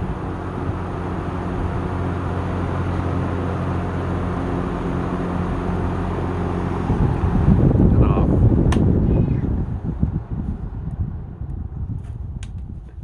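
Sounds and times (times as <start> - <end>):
fan motor hum: 0.0 - 13.0
rush of air from fan: 0.0 - 13.0.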